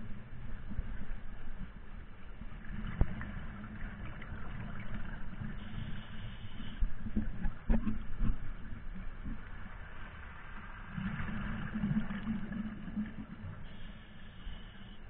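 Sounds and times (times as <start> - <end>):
underwater low rumble: 0.0 - 15.0.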